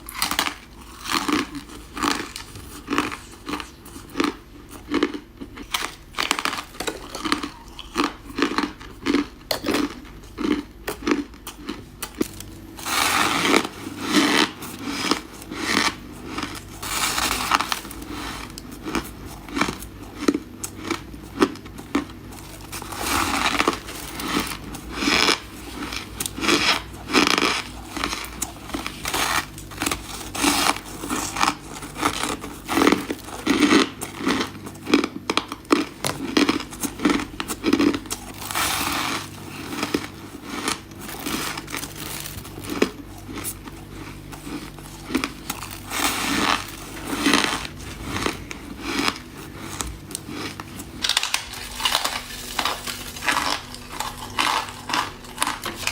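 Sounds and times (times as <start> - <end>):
ice crunching being chewed: 0.0 - 55.9.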